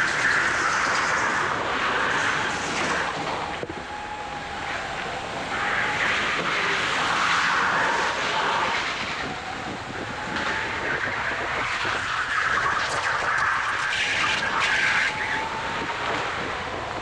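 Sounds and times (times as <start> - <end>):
wind rush: 0.0 - 17.0.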